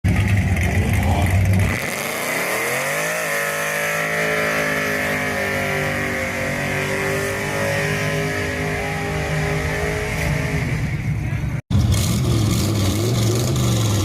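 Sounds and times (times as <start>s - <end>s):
car engine revving: 0.1s - 14.0s.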